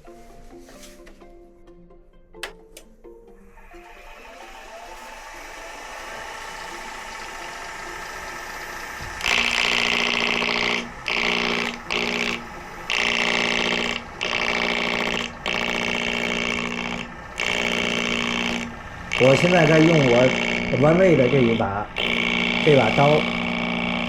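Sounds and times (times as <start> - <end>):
lathe humming: 3.4 - 24.0
gouge cutting wood: 3.8 - 24.0.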